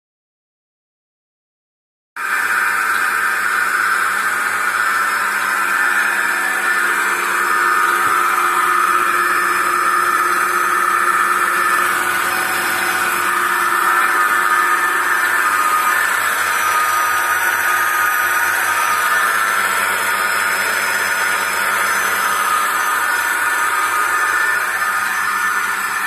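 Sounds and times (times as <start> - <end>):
vacuum pump running: 2.2 - 26.0.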